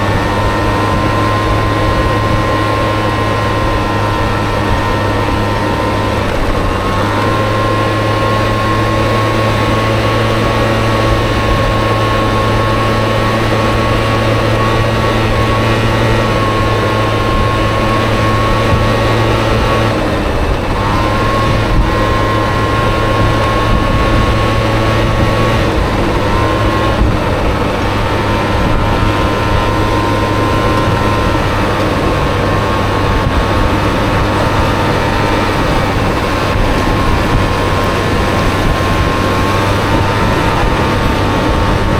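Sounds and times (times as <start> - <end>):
scooter engine running: 0.0 - 41.9.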